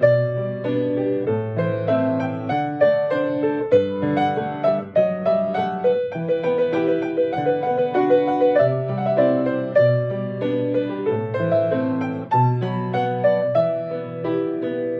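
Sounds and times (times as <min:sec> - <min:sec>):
solo piano melody: 0:00.0 - 0:14.9.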